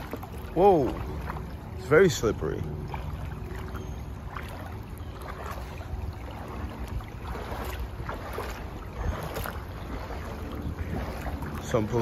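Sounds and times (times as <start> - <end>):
steady low rumble: 0.0 - 12.0
water splashing around legs: 0.0 - 12.0.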